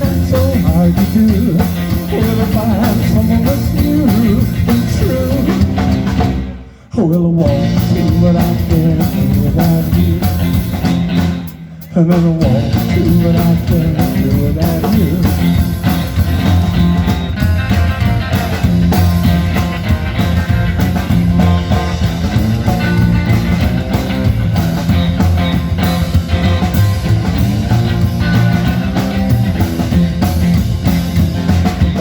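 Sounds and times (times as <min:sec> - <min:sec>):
electric guitar: 0:00.0 - 0:32.0
rock band instrumental: 0:00.0 - 0:32.0.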